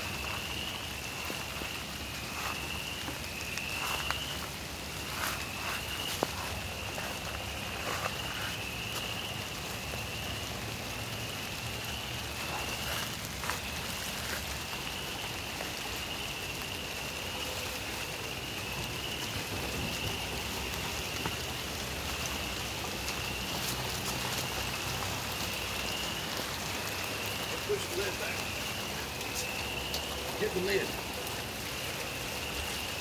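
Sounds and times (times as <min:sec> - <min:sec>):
frogs trilling: 0:00.0 - 0:33.0
rain falling: 0:00.0 - 0:33.0.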